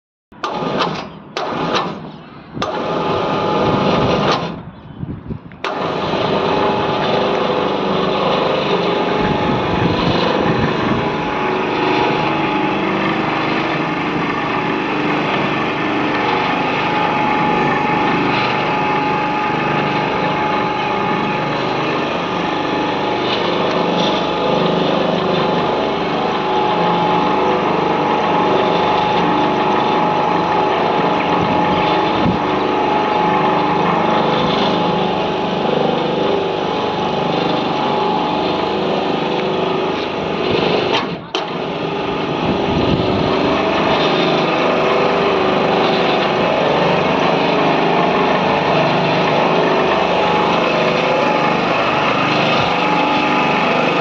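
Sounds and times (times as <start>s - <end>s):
winch motor whining: 0.4s - 4.7s, 5.6s - 54.0s.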